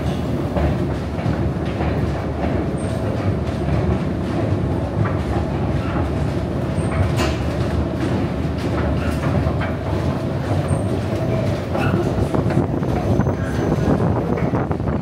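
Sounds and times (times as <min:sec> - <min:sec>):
clicks and clacks: 0:00.0 - 0:15.0
escalator mechanical rumble: 0:00.0 - 0:15.0.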